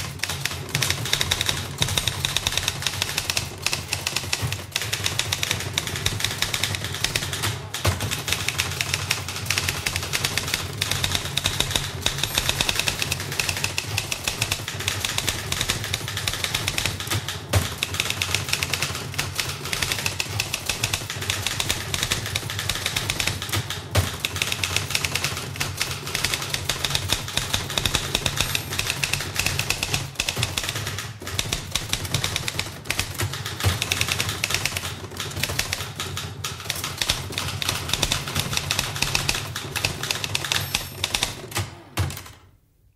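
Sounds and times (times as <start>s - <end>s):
typewriter keys clattering: 0.0s - 42.4s.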